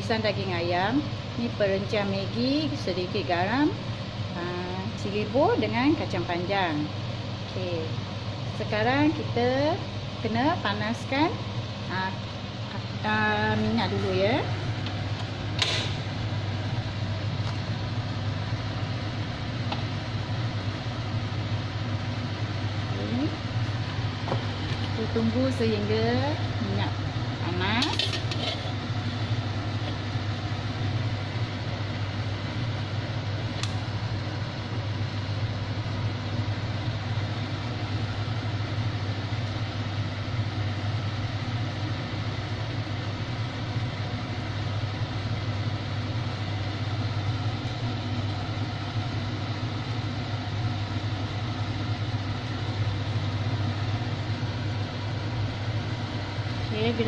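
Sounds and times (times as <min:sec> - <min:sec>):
gas stove hum and rushing: 0:00.0 - 0:57.0.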